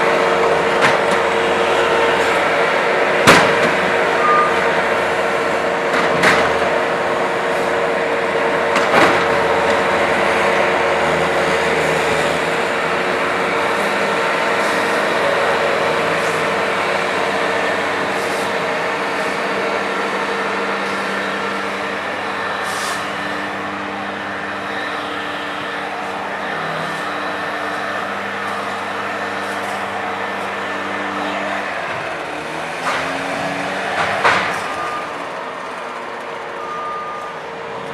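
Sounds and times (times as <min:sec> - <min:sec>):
loader engine running: 0:00.0 - 0:37.9.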